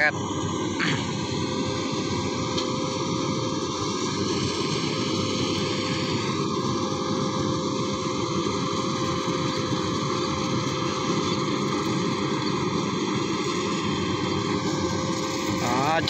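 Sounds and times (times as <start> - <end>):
combine harvester droning: 0.0 - 16.0.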